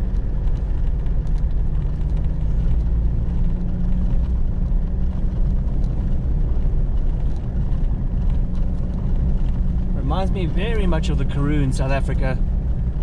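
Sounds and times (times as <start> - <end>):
vehicle engine and tyre drone: 0.0 - 13.0.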